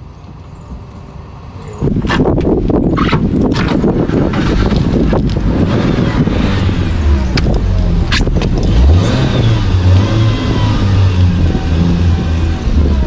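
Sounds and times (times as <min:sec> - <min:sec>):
car engine revving: 0:02.0 - 0:13.0.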